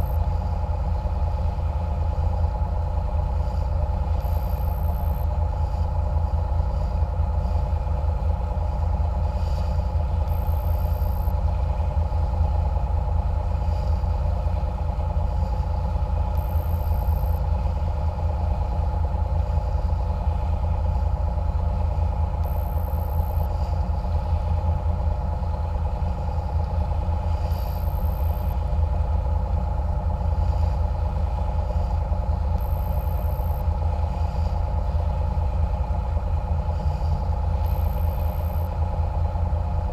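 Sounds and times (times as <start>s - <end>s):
boat engine rumbling with whine: 0.0s - 39.9s.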